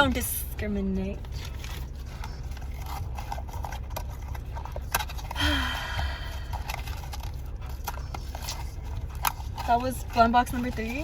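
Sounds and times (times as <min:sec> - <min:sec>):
steady low rumble: 0:00.0 - 0:11.0
packaging clicks and rustles: 0:01.1 - 0:11.0.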